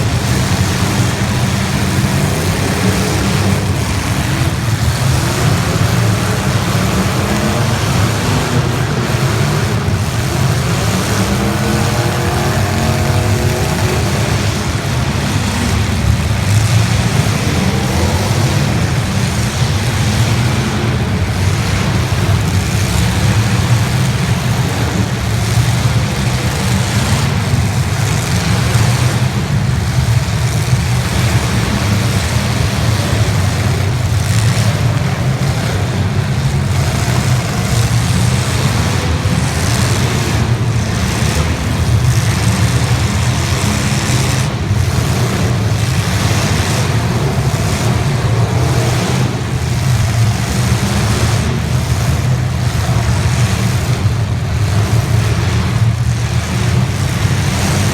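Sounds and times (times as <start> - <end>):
car engines running: 0.0 - 57.9.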